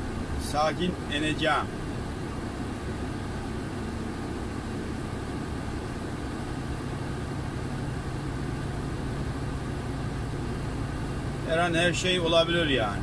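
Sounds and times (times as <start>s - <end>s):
steady low hum: 0.0s - 13.0s
truck diesel engine running: 0.0s - 13.0s.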